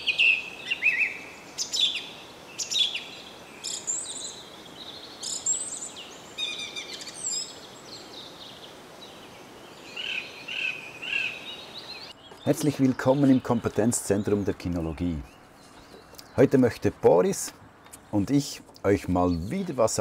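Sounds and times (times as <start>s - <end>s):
outdoor background hiss: 0.0s - 20.0s
songbirds chirping: 0.0s - 20.0s.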